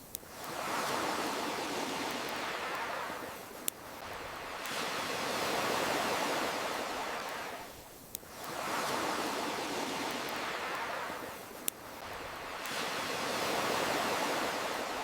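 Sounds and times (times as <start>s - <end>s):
campfire crackles: 0.0s - 15.0s
ocean waves surging: 0.3s - 7.7s, 8.3s - 15.0s.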